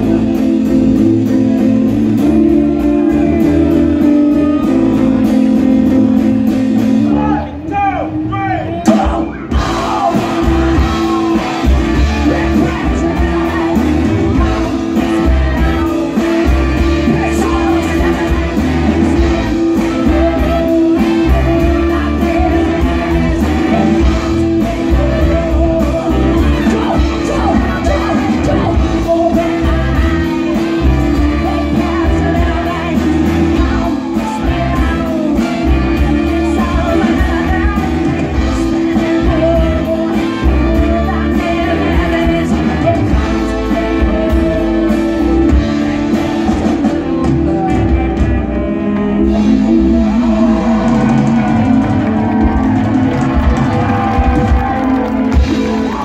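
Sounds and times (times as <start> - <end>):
person singing through pa: 0.0 - 7.6, 8.8 - 56.0
brass band playing funk groove: 0.0 - 56.0.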